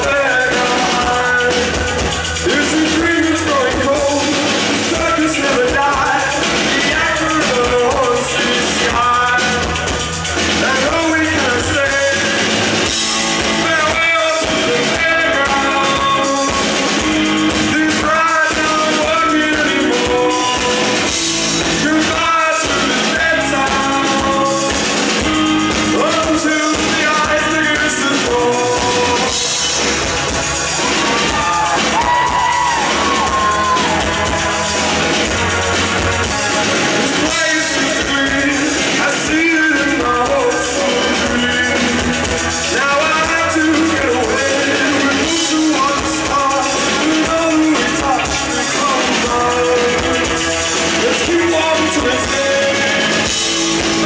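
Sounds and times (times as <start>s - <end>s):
man singing: 0.0s - 30.1s, 30.8s - 54.0s
bass guitar: 0.0s - 54.0s
drum kit: 0.0s - 54.0s
electric guitars: 0.0s - 54.0s.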